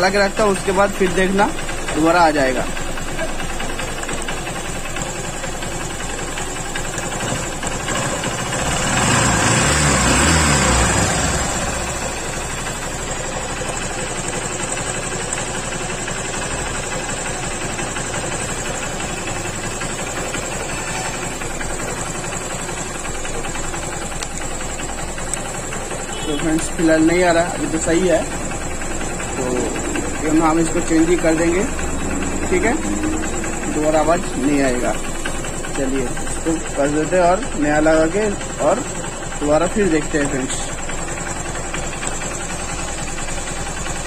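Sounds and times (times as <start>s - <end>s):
motorcycle engine idling: 0.0s - 44.0s.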